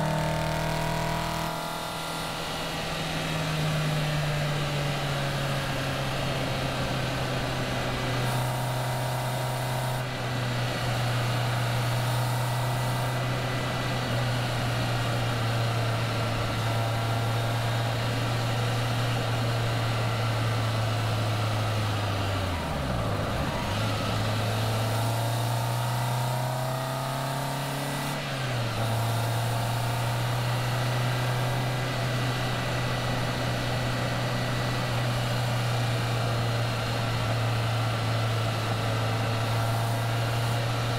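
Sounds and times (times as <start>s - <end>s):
car engine running: 0.0s - 40.9s
wind and road noise: 0.0s - 40.9s.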